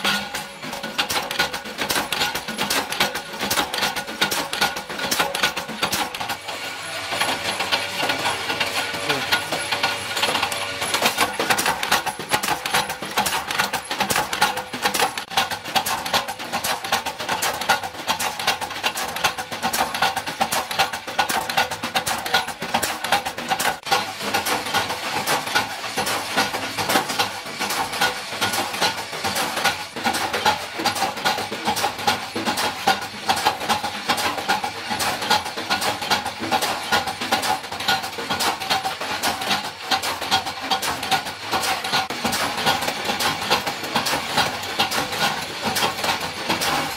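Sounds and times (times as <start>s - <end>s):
metal-pressing machinery running: 0.0s - 46.9s
rapid metallic clicking and clattering: 0.0s - 46.9s.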